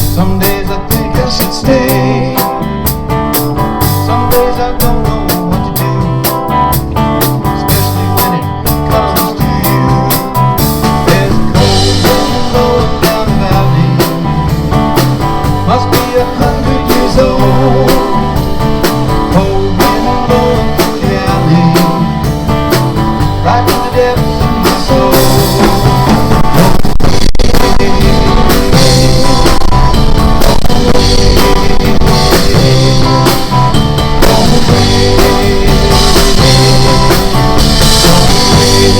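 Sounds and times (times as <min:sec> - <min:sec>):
blues-rock band playing: 0:00.0 - 0:38.9
guitar: 0:00.0 - 0:38.9
steady drum beat: 0:00.0 - 0:38.9.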